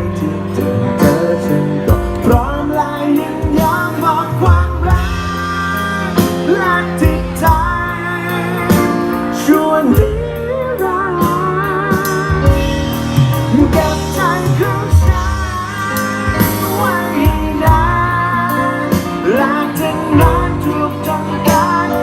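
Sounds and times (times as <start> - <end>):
band with bass and drums: 0.0 - 22.0
pop love song singing: 0.0 - 22.0.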